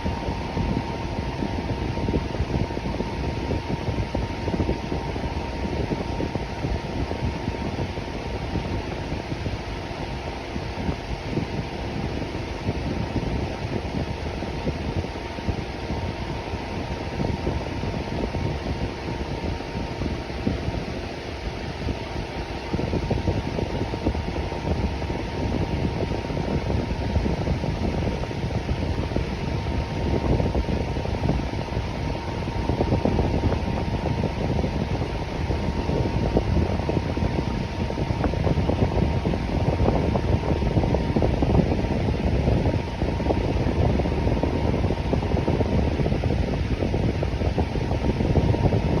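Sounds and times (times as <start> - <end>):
electric fan whooshing air: 0.0 - 49.0
faint steady hum: 0.0 - 49.0.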